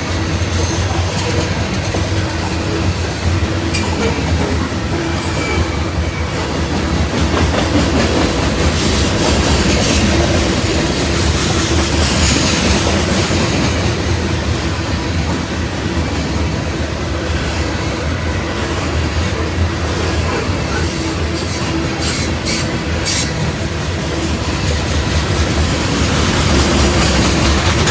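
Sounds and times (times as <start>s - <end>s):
train rumbling past: 0.0s - 27.9s
wheels clacking over track: 0.0s - 27.9s.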